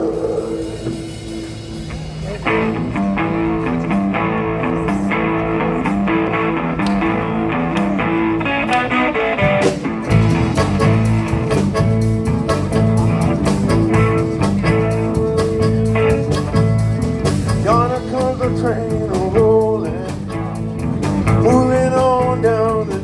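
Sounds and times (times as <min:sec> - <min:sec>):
lead guitar: 0:00.0 - 0:23.0
live country-blues band: 0:00.0 - 0:23.0.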